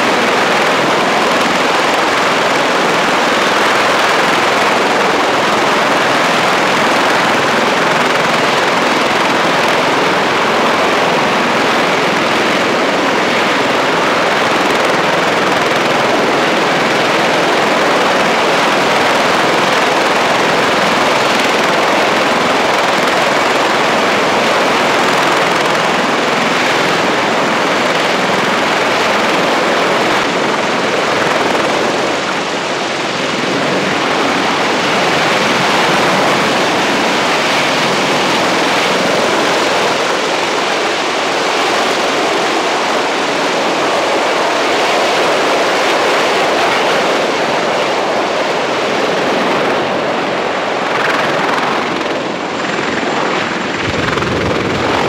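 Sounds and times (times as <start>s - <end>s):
helicopter turbine whine and rotors: 0.0s - 55.0s.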